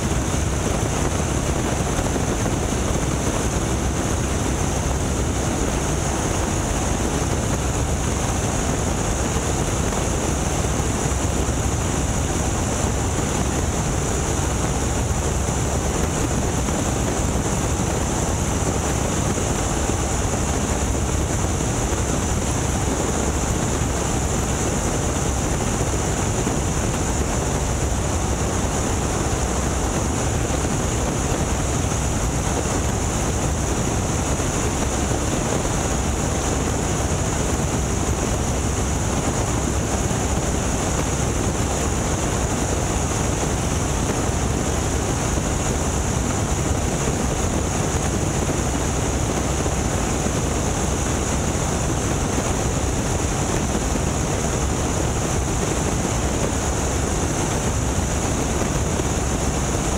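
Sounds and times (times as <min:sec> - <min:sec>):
propeller plane engine: 0:00.0 - 0:59.9
wind rushing on microphone: 0:00.0 - 0:59.9.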